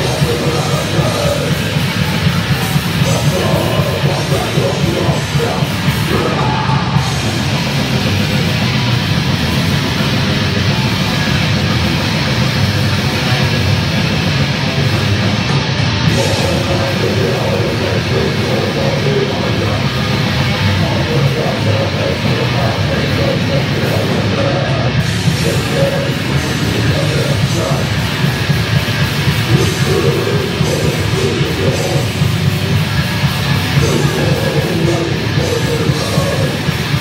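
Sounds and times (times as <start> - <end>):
heavy metal band playing: 0.0 - 37.0.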